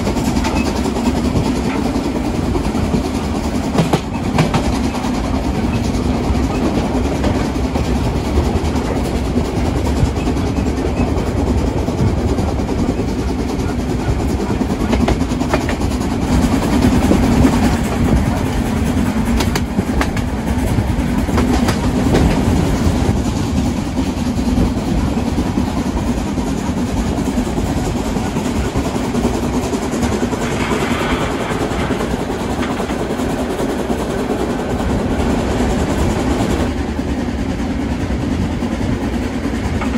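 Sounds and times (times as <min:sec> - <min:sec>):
train rumbling on rails: 0:00.0 - 0:39.9
wheels clacking over rail joints: 0:00.0 - 0:39.9.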